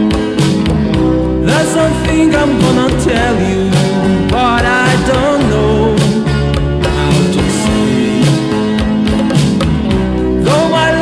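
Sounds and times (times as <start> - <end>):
band music: 0.0 - 11.0
bass: 0.0 - 11.0
drums keeping beat: 0.0 - 11.0
electric guitar: 0.0 - 11.0.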